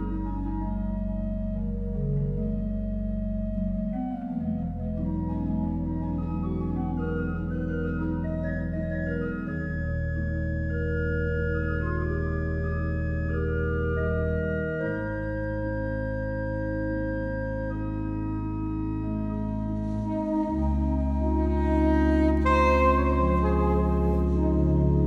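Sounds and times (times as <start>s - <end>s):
organ playing sustained chords: 0.0s - 25.0s.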